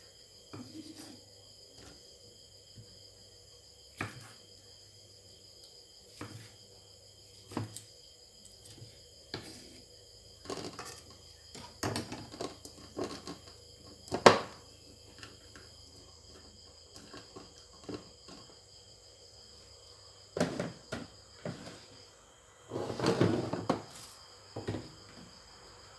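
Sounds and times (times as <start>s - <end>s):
crickets chirping: 0.0s - 25.9s.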